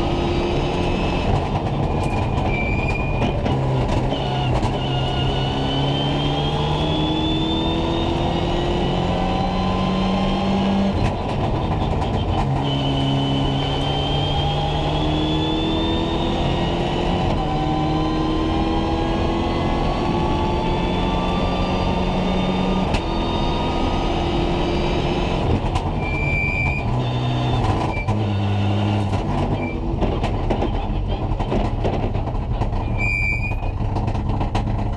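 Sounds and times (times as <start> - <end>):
rally car engine from cockpit: 0.0 - 34.9.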